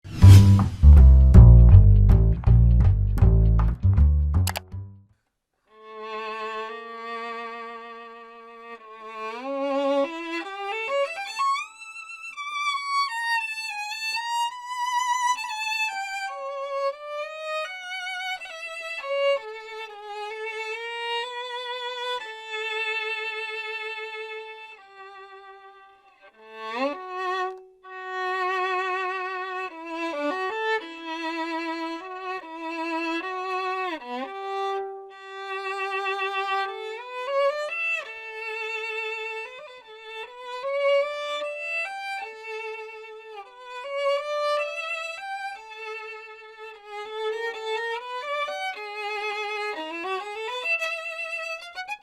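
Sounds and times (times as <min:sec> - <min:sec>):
solo violin melody: 0:05.7 - 0:52.0.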